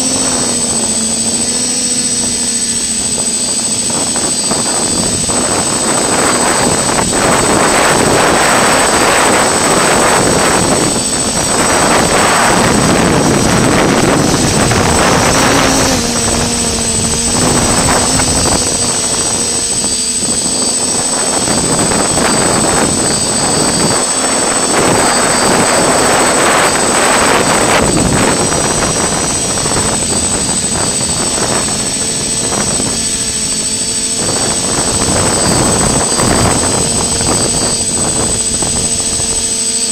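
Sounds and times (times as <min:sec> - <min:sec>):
drone motors buzzing whine: 0:00.0 - 0:39.9
wind rushing over microphone: 0:00.0 - 0:39.9.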